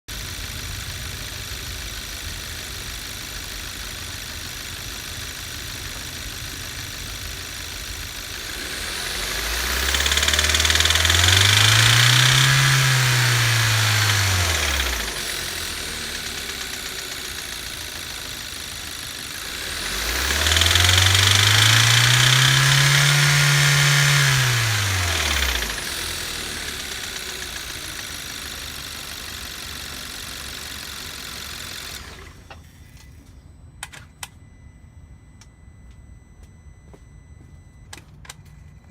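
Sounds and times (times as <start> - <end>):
engine knocking loudly: 0.1 - 32.0
car engine idling and revving: 0.1 - 38.9.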